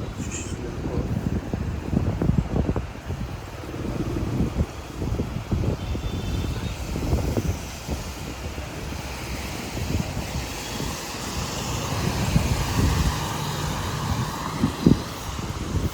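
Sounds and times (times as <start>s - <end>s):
street traffic passing: 0.0s - 15.9s
wind rumbling on microphone: 0.0s - 15.9s.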